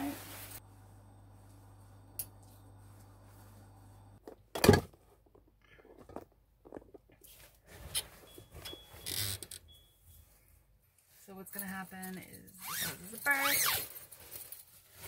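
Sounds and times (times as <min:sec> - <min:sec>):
low steady hum: 0:00.0 - 0:13.3.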